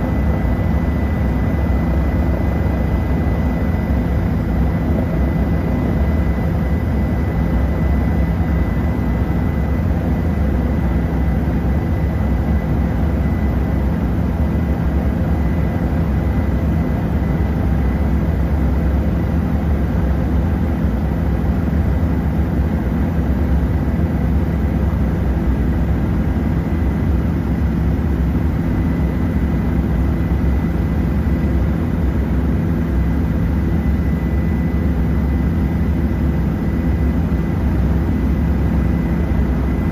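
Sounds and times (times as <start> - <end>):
helicopter engine and rotor drone: 0.0 - 39.9
thin steady whine: 0.0 - 39.9.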